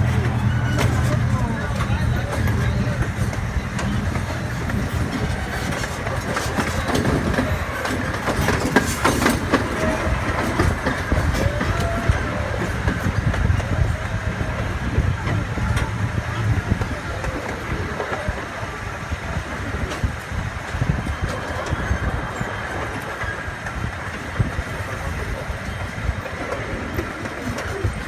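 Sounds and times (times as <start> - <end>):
clickety-clack over rail joints: 0.0 - 28.0
train wheels rumbling on rails: 0.0 - 28.0.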